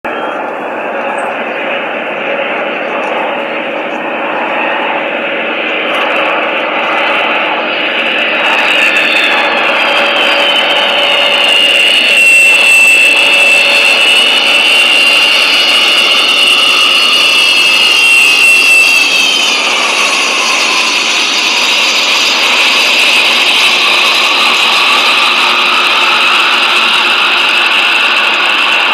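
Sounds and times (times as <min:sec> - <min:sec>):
jet engines running with whine: 0:00.0 - 0:28.9.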